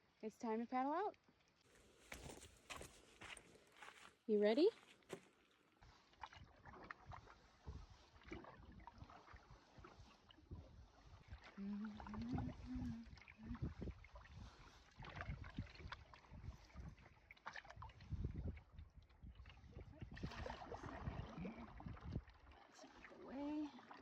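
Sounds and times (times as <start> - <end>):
soft water sounds: 0.0 - 24.0.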